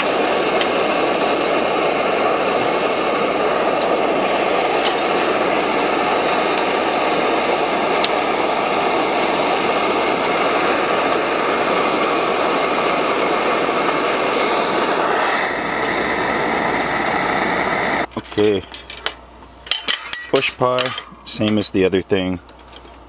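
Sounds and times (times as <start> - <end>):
gas stove flame hissing: 0.0 - 23.0.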